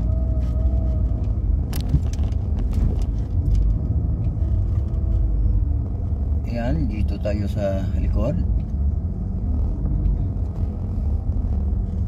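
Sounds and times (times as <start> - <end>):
car driving slowly from inside: 0.0 - 12.0.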